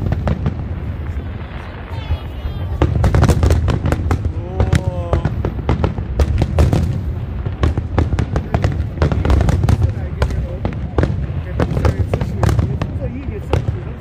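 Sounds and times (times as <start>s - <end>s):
fireworks bangs: 0.0s - 14.0s
low rumble of explosions: 0.0s - 14.0s.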